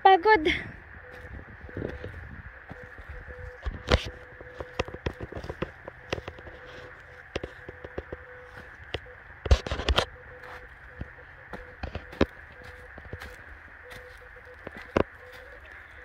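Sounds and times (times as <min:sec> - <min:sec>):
footsteps crunching dry leaves: 0:01.1 - 0:08.9, 0:09.6 - 0:16.0
brush crackling and snapping: 0:01.1 - 0:15.9.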